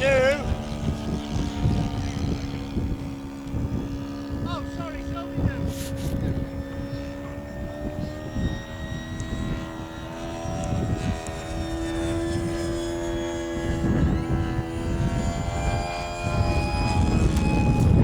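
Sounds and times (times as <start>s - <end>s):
model plane motor droning: 0.0s - 18.0s
wind buffeting microphone: 0.0s - 18.0s.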